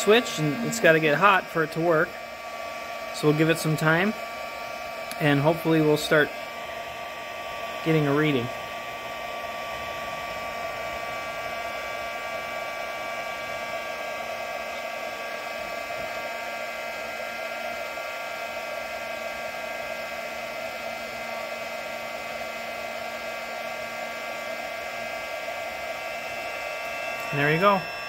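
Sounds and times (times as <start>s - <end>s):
fan motor whine: 0.0s - 28.0s
heat gun blowing air: 0.0s - 28.0s.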